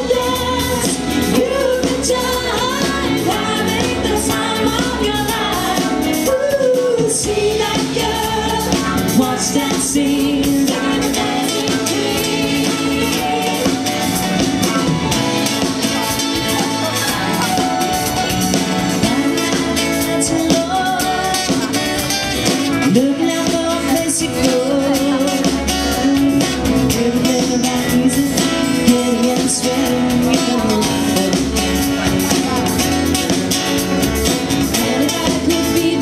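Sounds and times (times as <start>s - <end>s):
person singing lead vocal: 0.0s - 33.6s, 34.2s - 36.0s
live band playing pop song: 0.0s - 36.0s.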